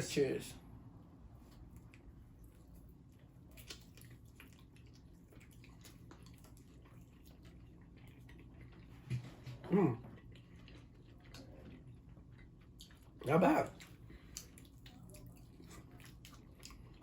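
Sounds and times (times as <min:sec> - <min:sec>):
low room hum: 0:00.0 - 0:17.0
chewing: 0:01.4 - 0:17.0.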